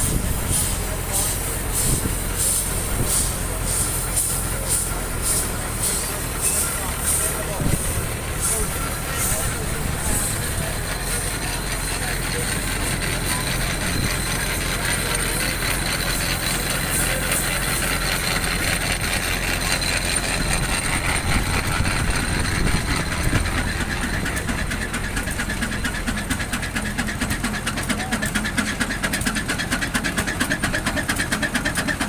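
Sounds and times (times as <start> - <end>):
engine low rumble: 0.0 - 32.0.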